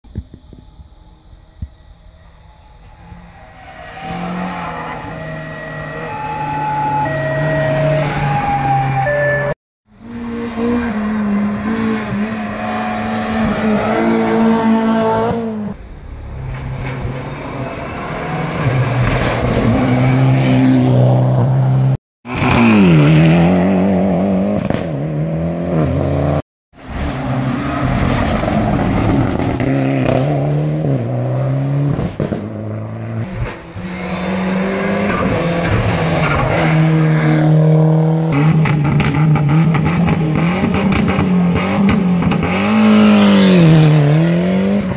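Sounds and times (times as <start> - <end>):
engine revving: 3.8 - 15.8, 16.8 - 44.9
rally car engines at full throttle: 3.9 - 44.9.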